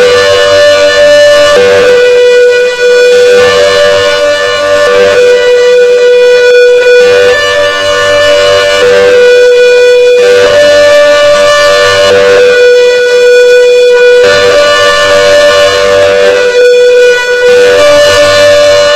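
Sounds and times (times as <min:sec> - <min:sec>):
siren hi-lo tone: 0:00.0 - 0:18.9.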